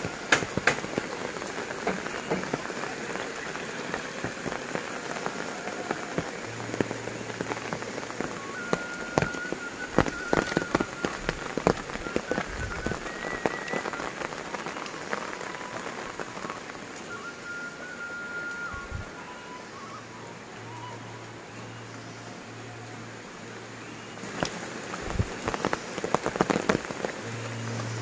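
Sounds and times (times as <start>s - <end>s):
steady rain falling: 0.0s - 28.0s
water dripping from eaves: 0.0s - 28.0s.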